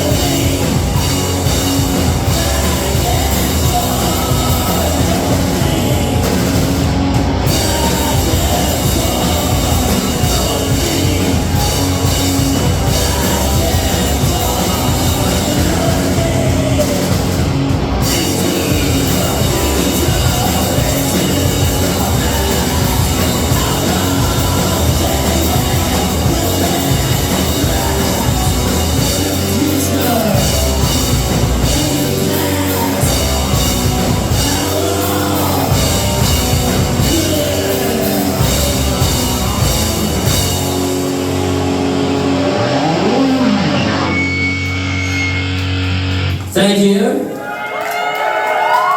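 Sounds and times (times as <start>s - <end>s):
live rock band playing: 0.0s - 47.3s.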